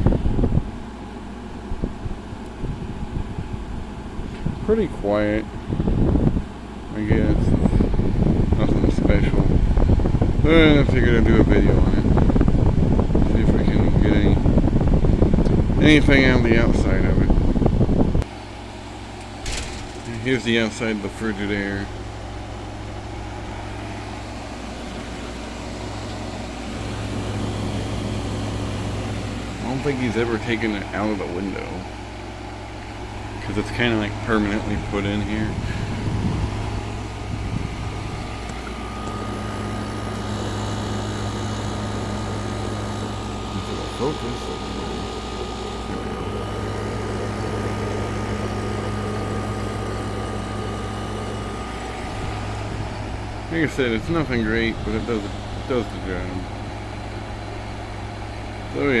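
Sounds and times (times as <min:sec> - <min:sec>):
air conditioner humming: 0:00.0 - 0:59.0.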